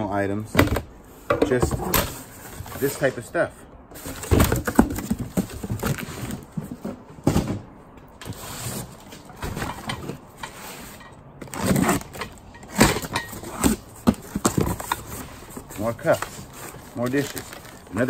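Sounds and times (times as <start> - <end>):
cardboard boxes knocking and scraping: 0.6 - 3.0, 3.9 - 16.8.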